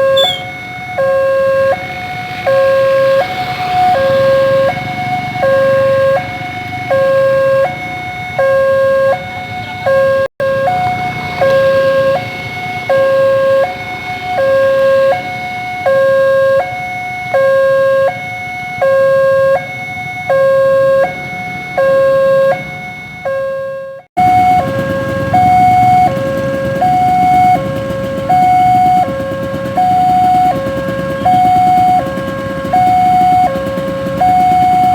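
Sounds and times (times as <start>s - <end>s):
level crossing two-tone alarm: 0.0s - 34.9s
road traffic rumble: 0.0s - 34.9s.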